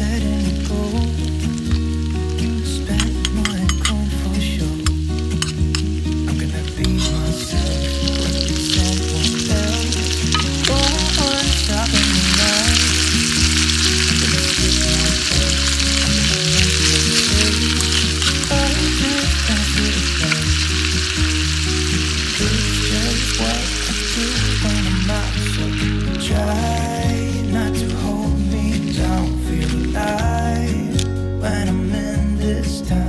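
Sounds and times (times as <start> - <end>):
food sizzling in a pan: 0.0 - 30.9
background music with bass line: 0.0 - 33.0.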